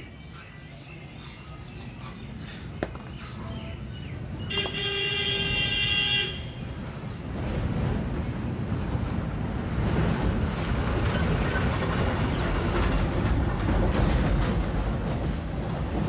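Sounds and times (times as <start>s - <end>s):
passing traffic rumble: 0.0s - 16.0s.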